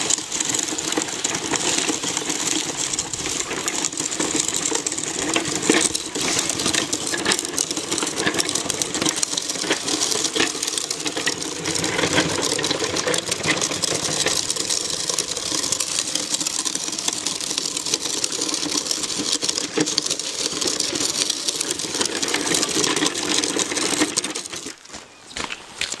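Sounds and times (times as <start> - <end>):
small clicks and rattles: 0.0 - 24.9
toy truck motor buzzing whir: 0.0 - 24.9.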